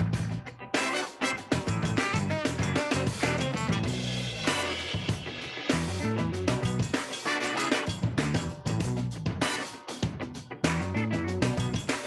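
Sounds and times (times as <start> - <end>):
drum kit beat: 0.0 - 12.0
electric guitar: 0.0 - 12.0
upbeat band music: 0.0 - 12.0.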